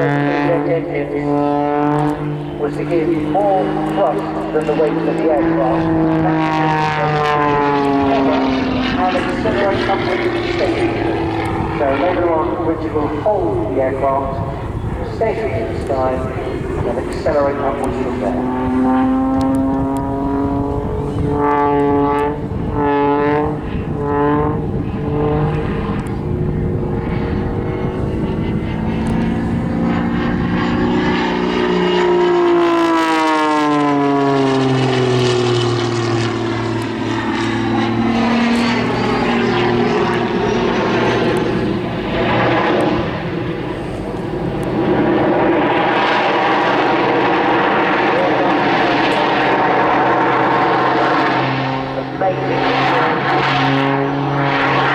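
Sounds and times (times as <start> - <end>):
aerobatic plane engine and propeller: 0.0 - 54.9.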